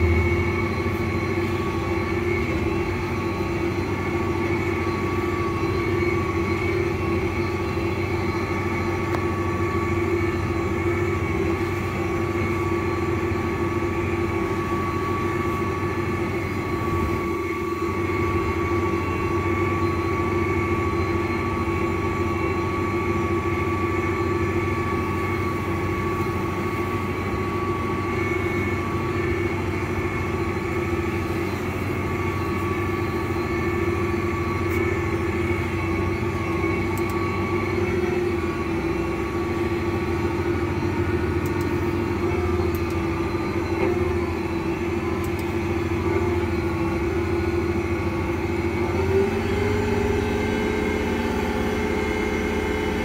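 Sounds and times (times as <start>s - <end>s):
diesel tractor engine running: 0.0s - 53.0s
thin steady whine: 0.0s - 53.0s.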